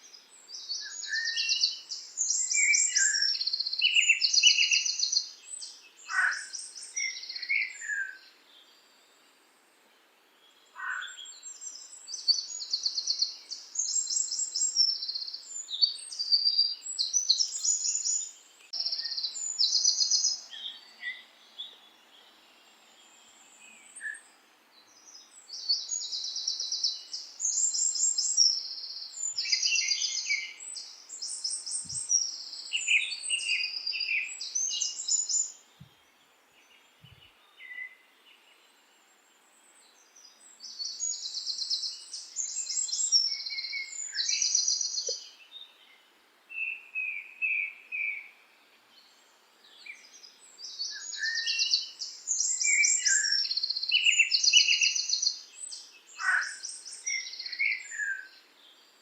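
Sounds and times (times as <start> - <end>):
songbirds trilling: 0.0 - 8.7, 10.4 - 38.6, 39.7 - 46.0, 46.6 - 59.0.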